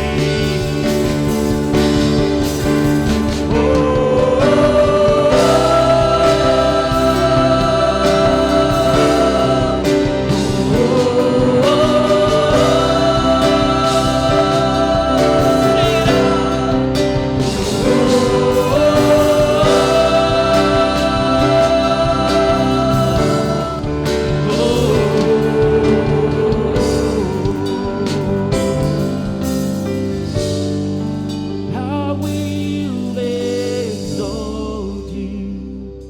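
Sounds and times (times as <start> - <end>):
group singing: 0.0 - 30.5
band playing chords and bass: 0.0 - 36.0.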